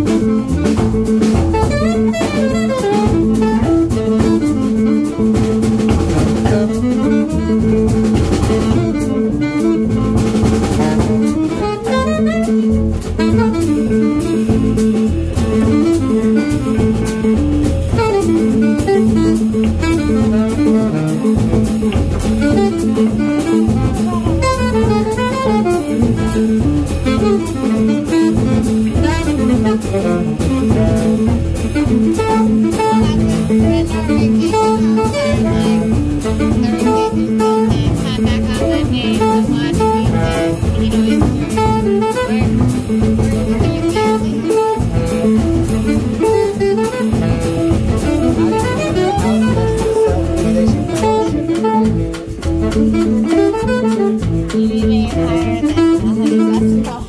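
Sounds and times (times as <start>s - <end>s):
drum kit played with sticks: 0.0s - 57.0s
saxophone: 0.0s - 57.0s
upright bass: 0.0s - 57.0s.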